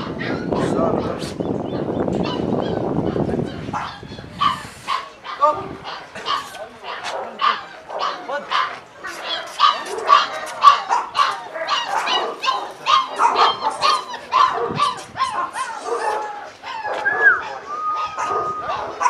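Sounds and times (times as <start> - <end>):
dogs barking: 0.0 - 19.0.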